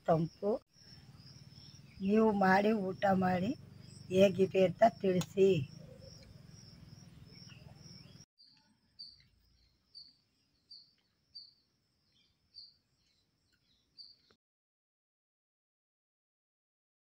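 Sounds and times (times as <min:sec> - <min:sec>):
faint outdoor ambience: 0:00.0 - 0:14.4.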